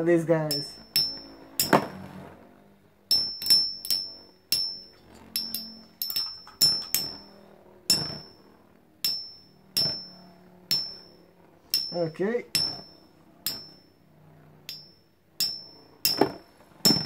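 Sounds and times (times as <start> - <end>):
spinning tops clinking metallically: 0.3 - 2.0, 3.0 - 17.0.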